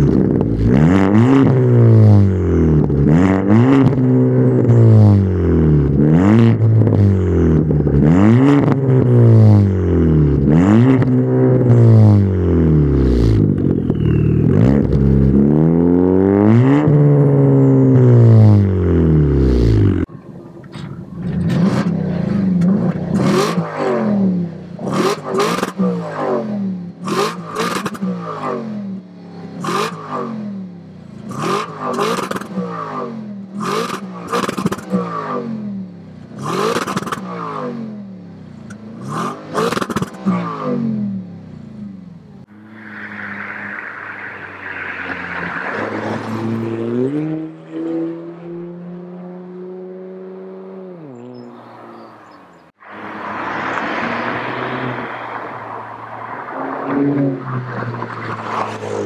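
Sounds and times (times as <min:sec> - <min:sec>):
car engine revving: 0:00.0 - 0:20.1, 0:21.1 - 0:59.0.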